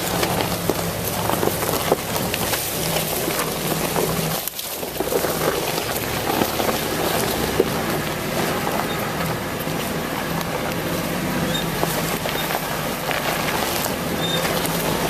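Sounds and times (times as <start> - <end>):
tyres crackling over dry leaves: 0.0 - 15.0.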